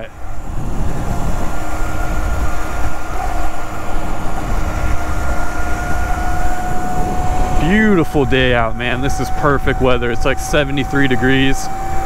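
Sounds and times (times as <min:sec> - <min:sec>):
electric motor whine: 0:00.0 - 0:12.0
road rumble: 0:00.0 - 0:12.0
wind rush on microphone: 0:00.0 - 0:12.0.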